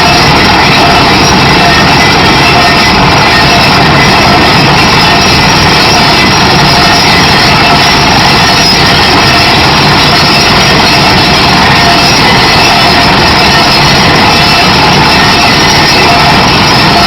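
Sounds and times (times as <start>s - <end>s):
well drilling rig running: 0.0s - 17.0s.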